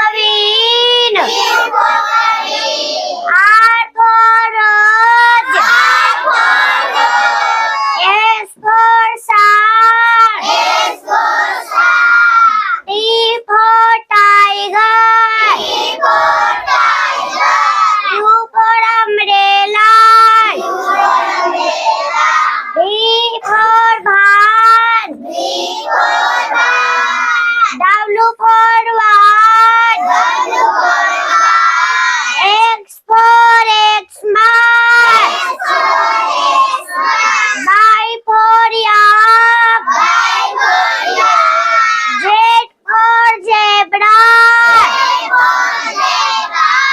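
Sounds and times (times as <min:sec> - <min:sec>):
child singing: 0:00.0 - 0:46.9.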